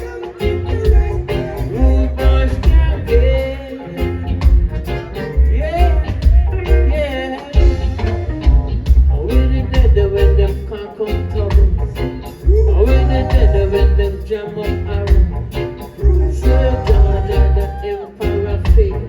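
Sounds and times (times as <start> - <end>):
heavy pulsing bass line: 0.0 - 19.0
reggae band playing: 0.0 - 19.0.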